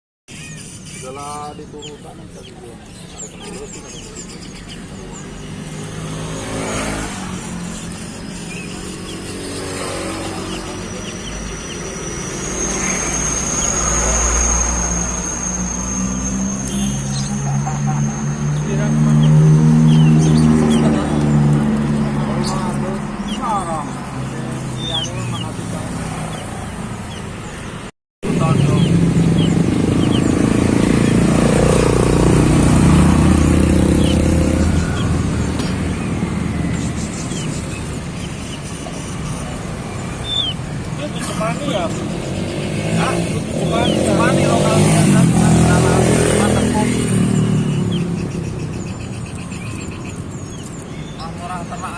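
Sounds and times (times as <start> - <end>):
small birds chirping: 0.3 - 51.9
traffic engine rumble: 0.3 - 51.9.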